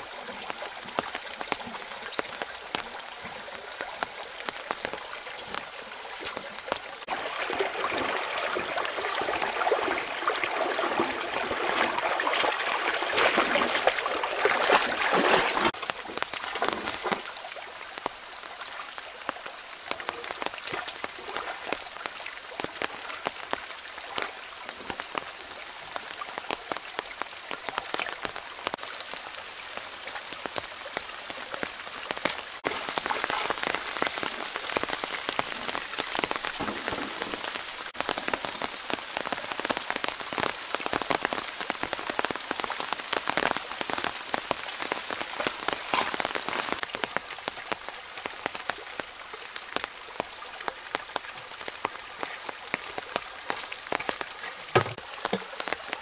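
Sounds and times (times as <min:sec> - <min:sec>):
rocky stream trickling: 0:00.0 - 0:56.0.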